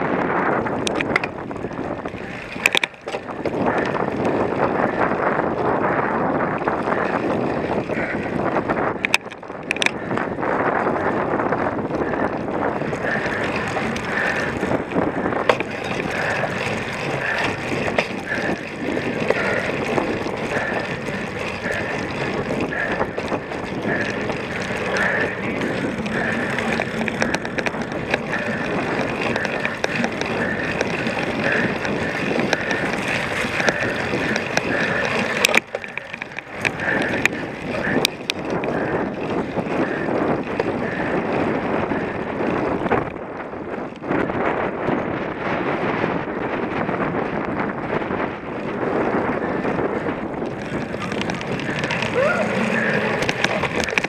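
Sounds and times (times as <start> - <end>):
bike frame rattling: 0.0 - 54.0
bike tyres rumbling: 0.0 - 54.0
wind noise on microphone: 0.0 - 54.0.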